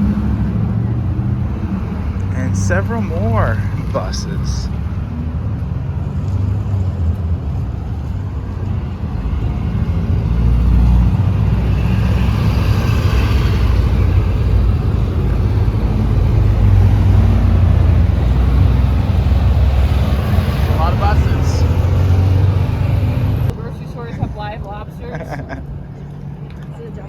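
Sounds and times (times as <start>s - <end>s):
vehicle road rumble: 0.0s - 27.0s.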